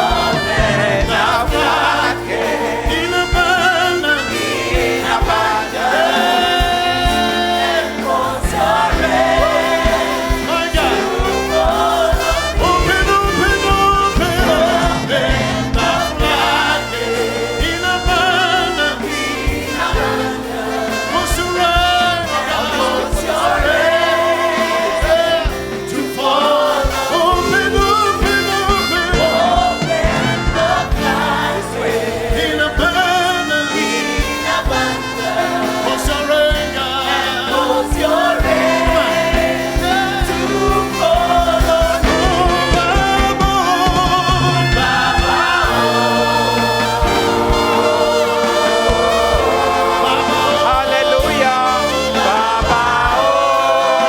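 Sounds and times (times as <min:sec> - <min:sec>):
band playing: 0:00.0 - 0:54.0
choir and congregation singing: 0:00.0 - 0:54.0.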